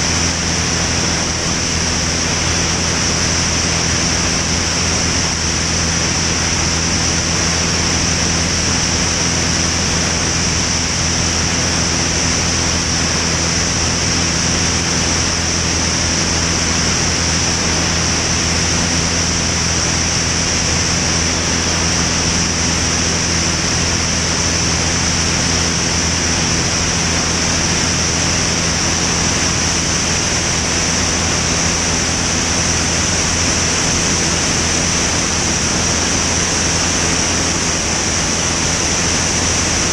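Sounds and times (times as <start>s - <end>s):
aircraft engine and propeller drone: 0.0s - 39.9s
rush of airflow: 0.0s - 39.9s.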